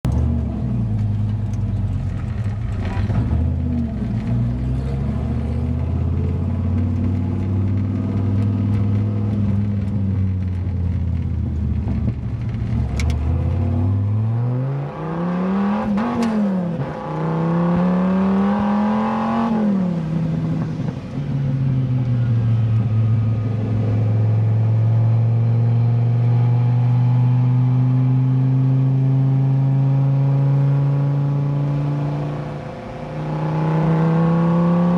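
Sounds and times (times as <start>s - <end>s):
sports car engine revving: 2.4s - 21.3s, 22.6s - 34.9s.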